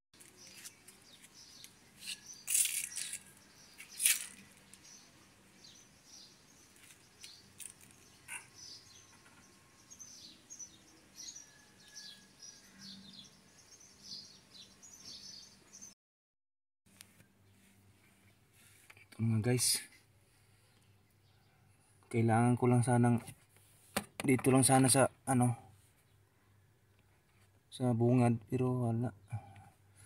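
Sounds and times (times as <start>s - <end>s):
small birds chirping: 0.2s - 16.0s, 17.0s - 23.2s, 24.3s - 27.9s.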